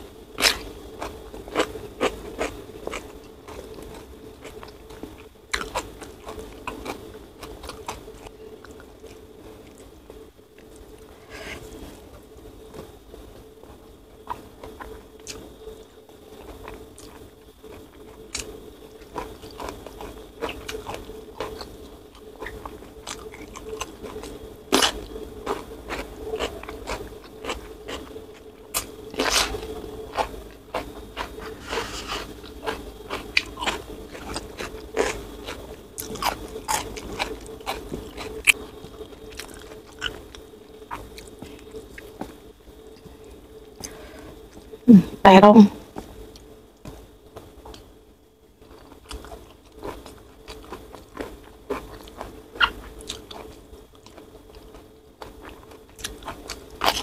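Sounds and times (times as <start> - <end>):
chewing with crunches: 0.0 - 44.8, 45.8 - 57.0.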